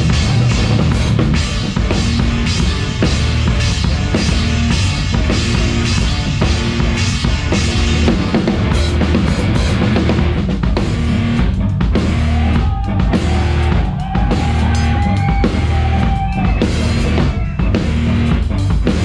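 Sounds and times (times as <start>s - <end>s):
distorted guitars and bass: 0.0s - 19.0s
drum kit played fast: 0.0s - 19.0s.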